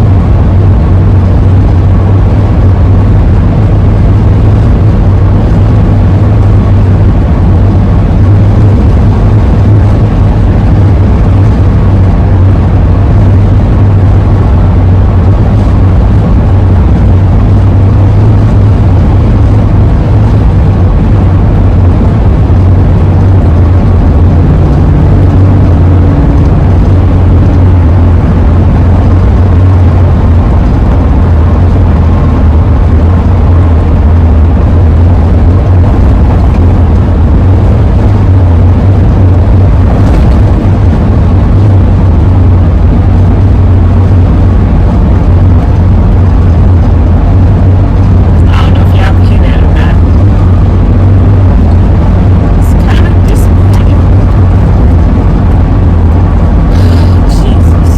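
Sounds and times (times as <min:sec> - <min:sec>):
van driving drone: 0:00.0 - 0:57.9.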